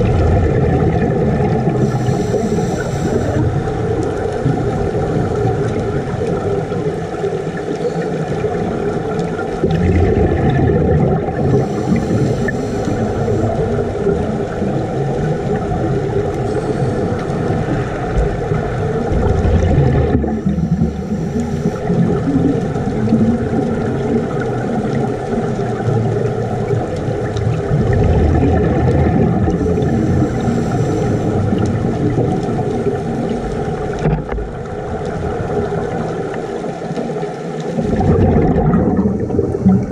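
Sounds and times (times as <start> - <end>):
low underwater drone: 0.0 - 39.9
underwater bubbling: 0.0 - 39.9.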